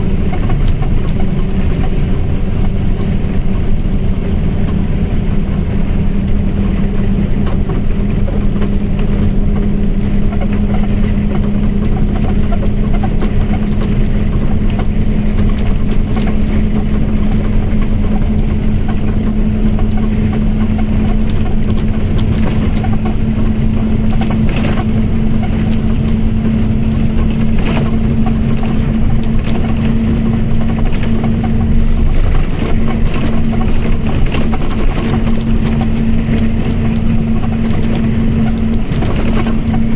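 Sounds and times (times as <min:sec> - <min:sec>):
bus engine rumble: 0:00.0 - 0:39.9
differential whine: 0:00.0 - 0:39.9.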